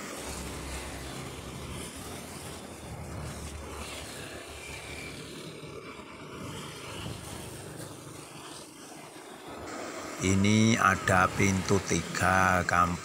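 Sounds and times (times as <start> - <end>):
traffic hum and rumble: 0.0 - 13.0.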